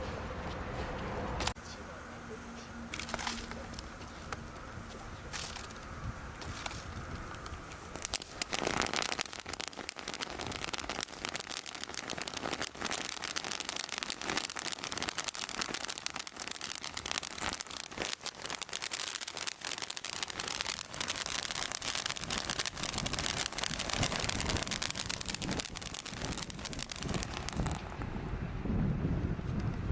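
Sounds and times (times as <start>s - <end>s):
firework crackling: 2.9s - 28.3s.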